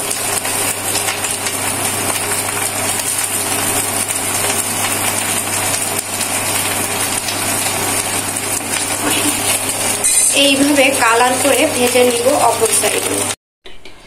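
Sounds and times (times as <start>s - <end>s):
fish sizzling in a pan: 0.0s - 13.3s.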